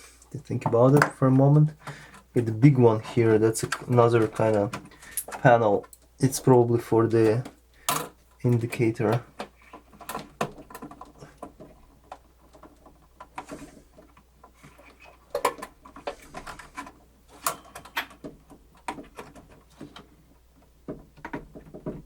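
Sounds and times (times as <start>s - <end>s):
clicks and scrapes on plastic and metal: 0.6s - 6.6s, 7.2s - 22.0s.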